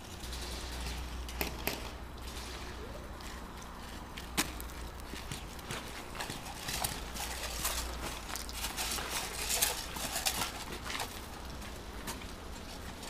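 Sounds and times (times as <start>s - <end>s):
footsteps on gravel: 2.4s - 13.0s.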